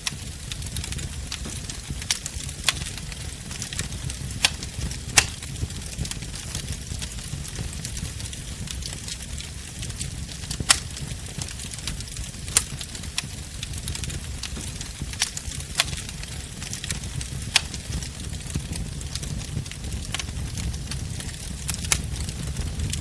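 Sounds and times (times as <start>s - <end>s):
fire crackling and popping: 0.0s - 23.0s
wood fire rumbling and hissing: 0.0s - 23.0s.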